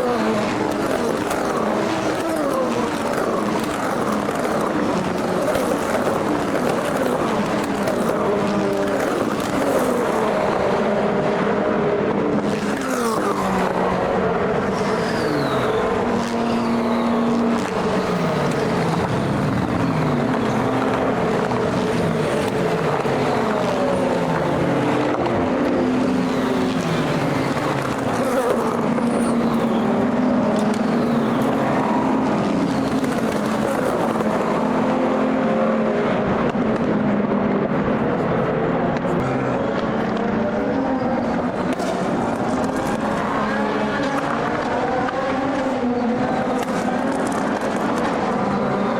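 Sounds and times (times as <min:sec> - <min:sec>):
race cars passing at full throttle: 0:00.0 - 0:48.9.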